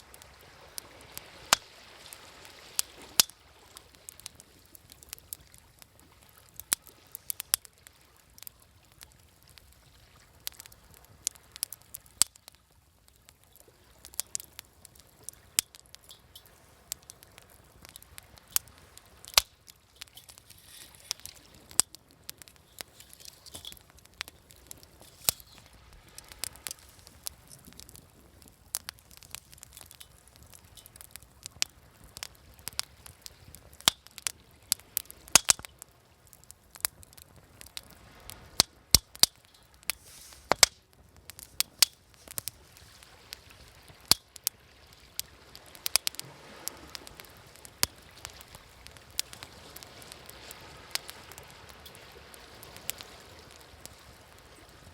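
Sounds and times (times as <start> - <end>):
waves washing: 0.0 - 12.0, 13.5 - 35.6, 37.3 - 54.9
wood fire crackling and popping: 0.0 - 54.9.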